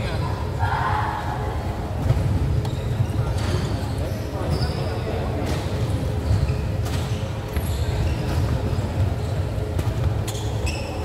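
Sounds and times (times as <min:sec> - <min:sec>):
shoe squeaking on court floor: 0:02.1 - 0:11.0.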